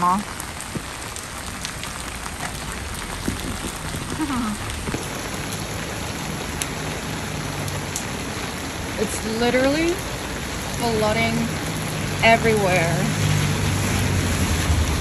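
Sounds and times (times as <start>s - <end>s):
heavy rain on umbrellas and pavement: 0.0s - 15.0s
raindrops tapping: 0.0s - 15.0s.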